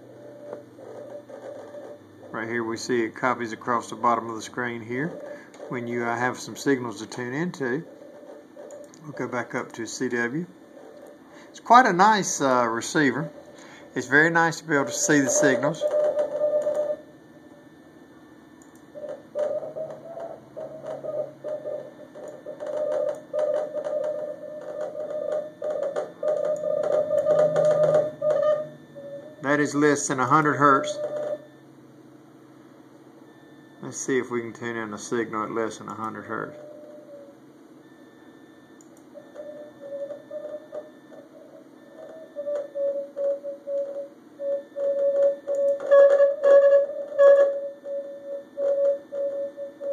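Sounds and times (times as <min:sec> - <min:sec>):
morse code tone: 0:00.0 - 0:17.7, 0:18.5 - 0:31.7, 0:33.3 - 0:49.9.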